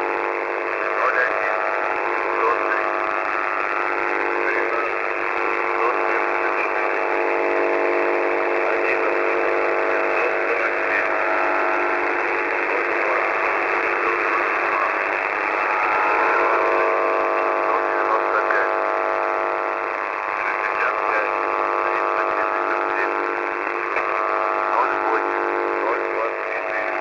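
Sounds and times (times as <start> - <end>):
buzz of steady tones: 0.0 - 27.0
radio static hiss: 0.0 - 27.0.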